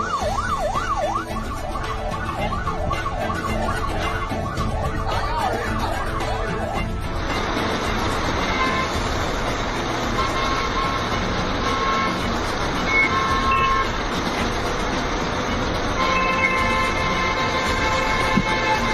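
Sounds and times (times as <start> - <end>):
traffic noise: 0.0 - 18.9.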